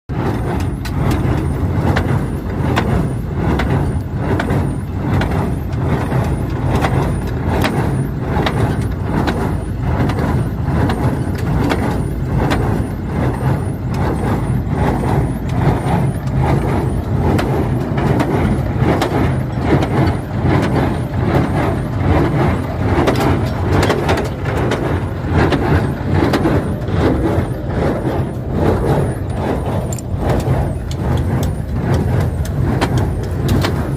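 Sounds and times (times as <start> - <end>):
tractor engine hum: 0.1 - 33.9.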